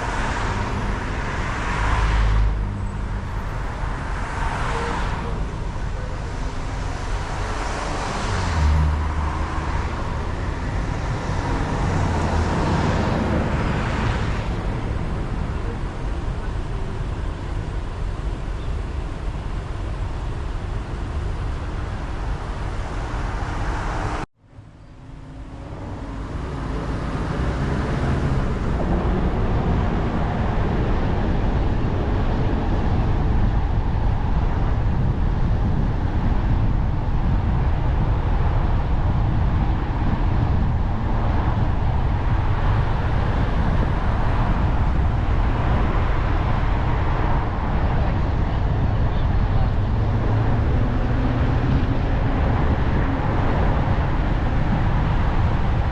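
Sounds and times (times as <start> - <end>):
motor vehicle rumble: 0.0 - 55.9.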